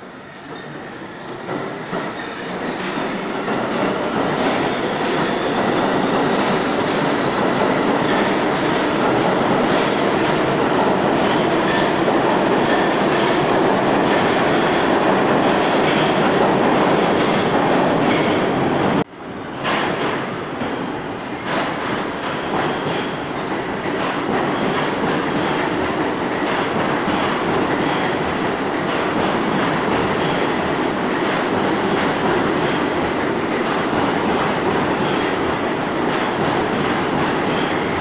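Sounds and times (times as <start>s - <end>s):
subway train wheels on rails: 0.0s - 38.0s.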